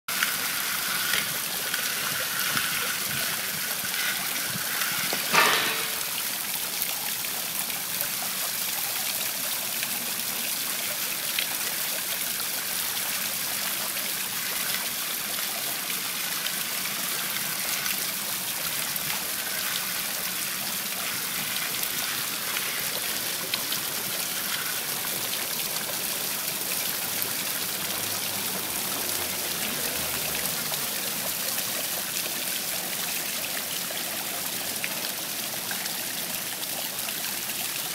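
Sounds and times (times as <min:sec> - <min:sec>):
fountain water splashing: 0:00.1 - 0:37.9.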